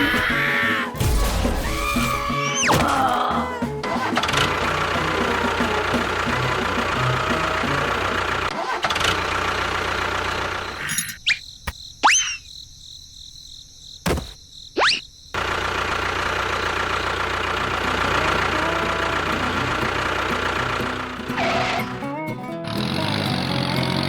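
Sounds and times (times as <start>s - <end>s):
engine running: 0.0s - 11.1s, 15.4s - 24.0s.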